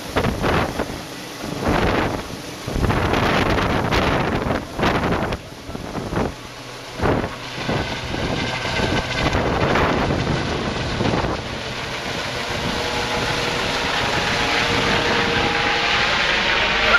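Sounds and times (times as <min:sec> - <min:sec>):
helicopter flying overhead: 0:00.0 - 0:16.9
wind buffeting microphone: 0:00.0 - 0:16.9.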